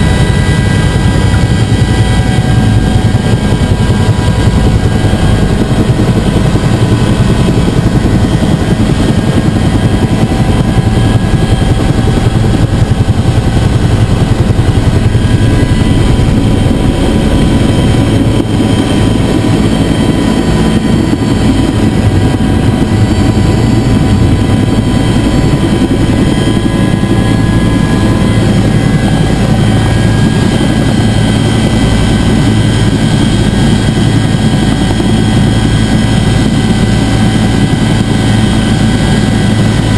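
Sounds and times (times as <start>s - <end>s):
whining tones: 0.0s - 32.5s
helicopter rotor drone: 0.0s - 39.9s.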